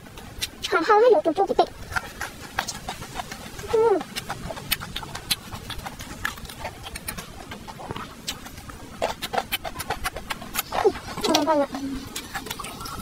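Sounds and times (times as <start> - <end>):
chewing and mouth sounds: 0.0 - 13.0.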